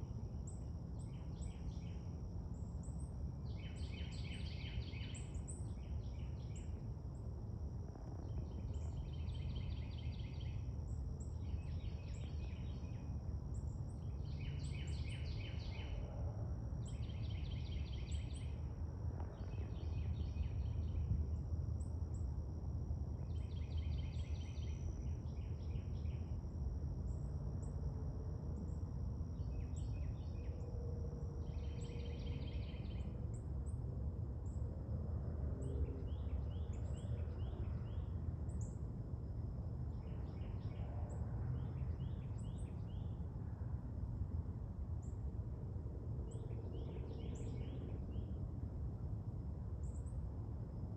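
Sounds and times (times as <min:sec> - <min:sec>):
rasping pulsed insect call: 0:00.0 - 0:43.6.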